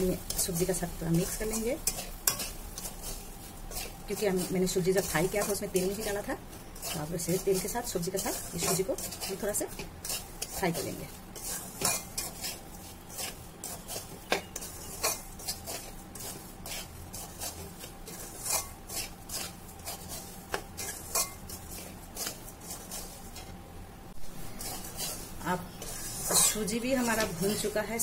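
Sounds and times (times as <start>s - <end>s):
metal spatula scraping a metal pan: 0.0s - 23.6s, 24.4s - 28.0s.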